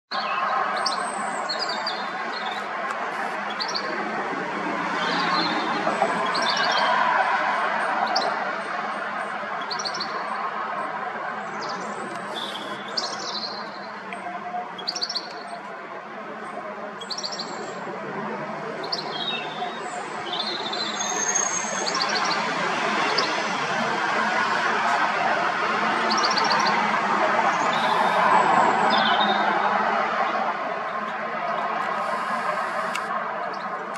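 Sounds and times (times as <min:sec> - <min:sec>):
steady background noise: 0:00.1 - 0:33.9.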